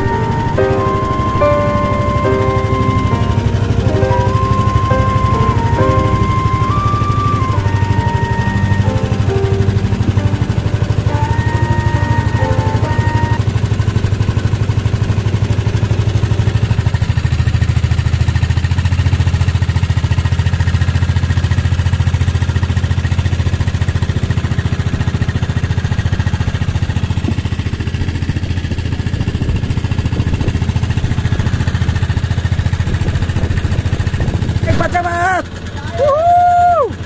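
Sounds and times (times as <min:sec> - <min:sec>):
boat engine chugging: 0:00.0 - 0:37.0.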